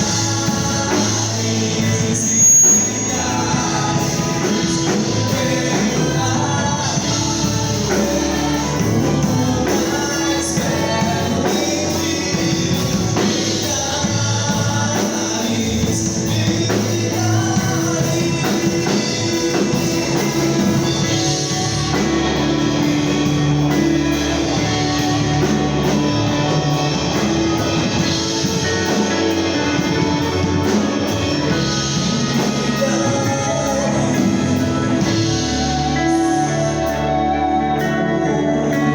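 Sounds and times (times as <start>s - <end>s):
drum kit: 0.0s - 38.9s
electric guitar: 0.0s - 38.9s
live band playing: 0.0s - 38.9s
singing: 0.0s - 38.9s.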